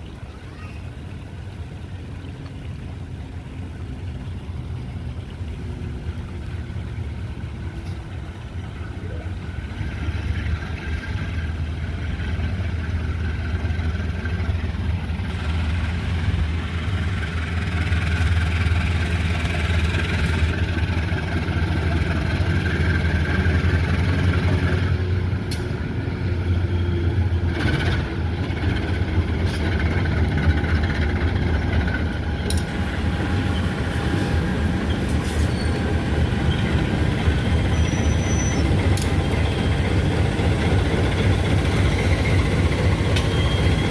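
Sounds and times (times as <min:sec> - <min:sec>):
train rumbling past: 0:00.0 - 0:43.9.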